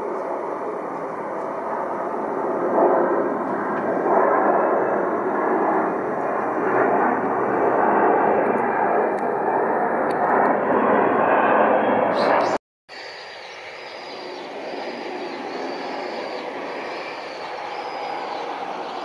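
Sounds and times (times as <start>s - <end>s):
jet passing overhead: 0.0s - 19.0s.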